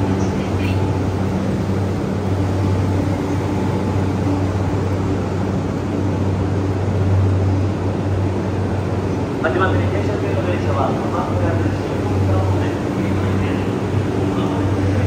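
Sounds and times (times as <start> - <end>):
electric train equipment humming: 0.0 - 15.0.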